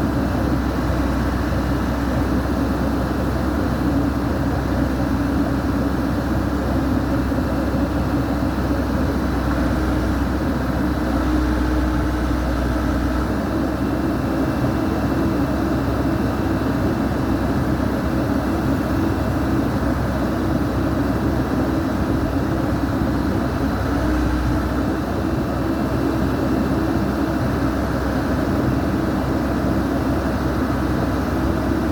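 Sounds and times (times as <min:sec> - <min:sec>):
diesel engine rumbling: 0:00.0 - 0:31.9.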